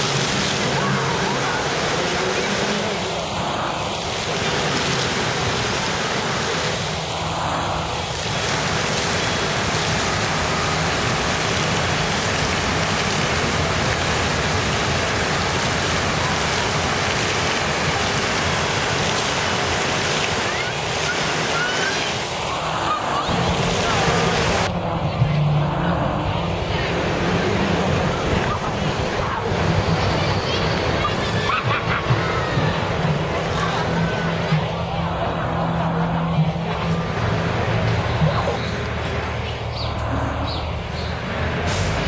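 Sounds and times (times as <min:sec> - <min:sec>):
monorail rushing hiss: 0:00.0 - 0:42.0.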